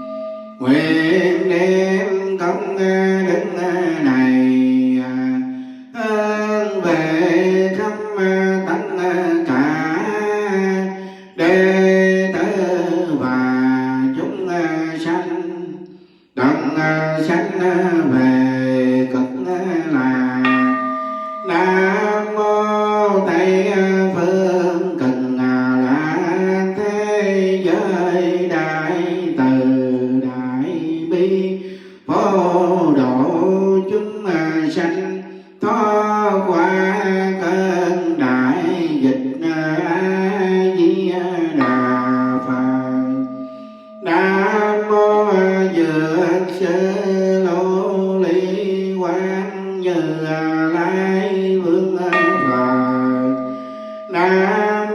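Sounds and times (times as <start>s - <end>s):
person chanting long held notes: 0.0s - 15.8s, 16.4s - 54.9s.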